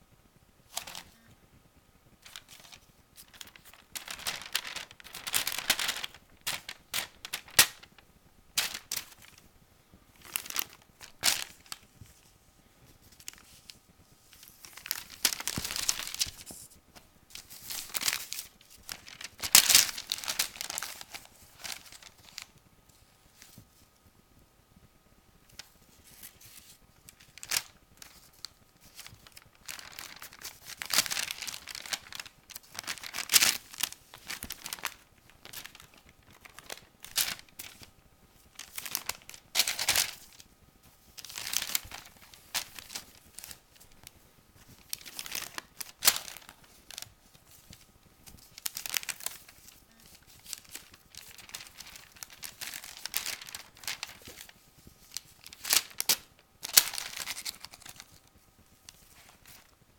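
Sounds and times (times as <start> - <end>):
newspaper crinkling: 0.7 - 1.2, 2.2 - 9.4, 10.1 - 12.4, 13.0 - 22.6, 25.6 - 59.8.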